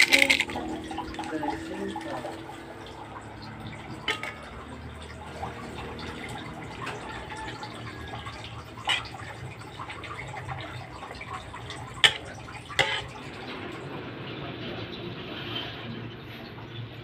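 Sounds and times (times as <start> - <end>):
wet cooking sizzle in a pan: 0.0 - 16.6.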